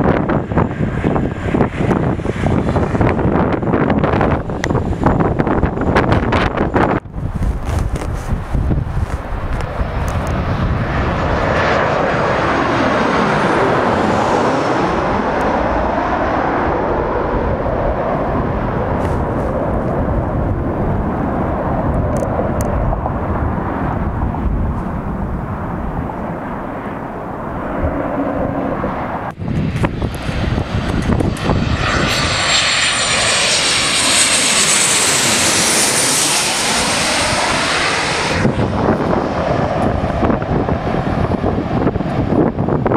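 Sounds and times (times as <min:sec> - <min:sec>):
jet engines passing overhead: 0:00.0 - 0:42.9.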